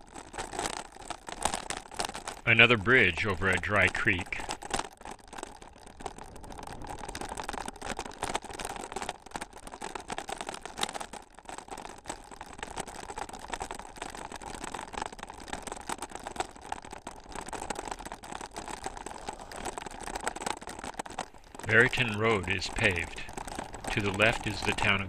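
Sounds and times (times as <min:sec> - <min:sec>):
bicycle rattling over rough trail: 0:00.0 - 0:25.0
tyre noise: 0:00.0 - 0:25.0.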